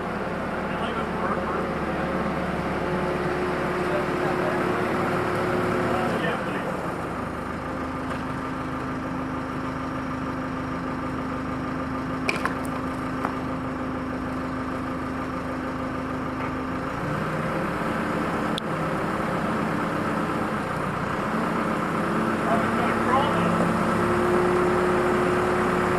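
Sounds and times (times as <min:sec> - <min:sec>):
forklift engine running: 0:00.0 - 0:25.9.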